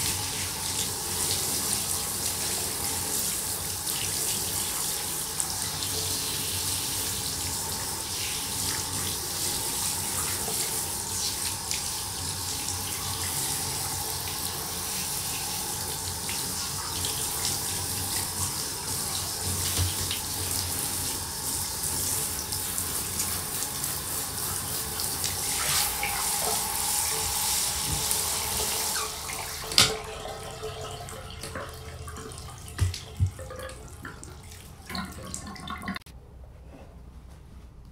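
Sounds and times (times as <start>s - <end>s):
shower sprayer water hissing: 0.0s - 34.9s.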